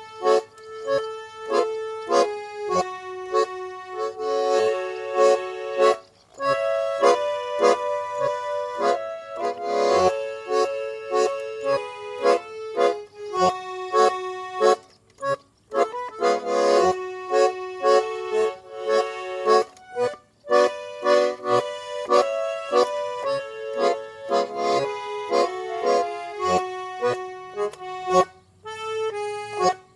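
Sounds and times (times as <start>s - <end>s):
button accordion rhythmic chords: 0.0s - 29.9s.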